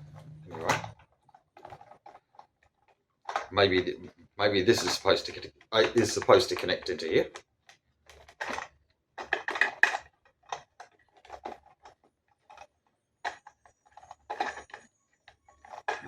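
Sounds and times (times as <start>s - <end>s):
hard parts clicking and knocking: 0.0s - 16.0s.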